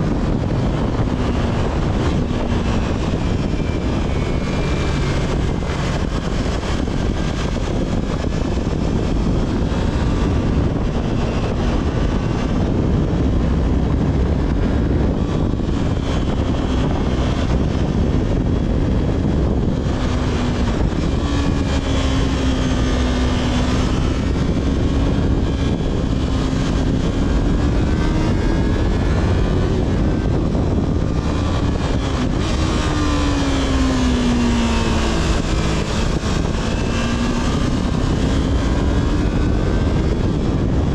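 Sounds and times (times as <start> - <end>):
motorcycle engine while riding: 0.0 - 40.9
wind noise: 0.0 - 40.9.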